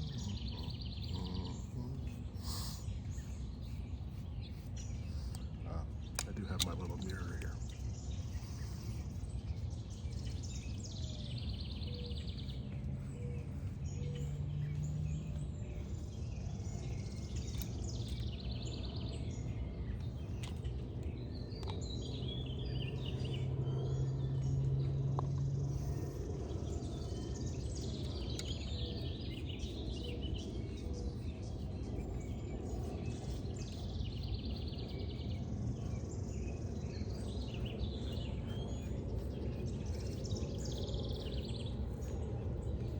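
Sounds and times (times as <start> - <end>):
birds chirping and trilling: 0.0 - 42.9
low hum: 0.0 - 42.9
steady low rumble: 0.0 - 42.9.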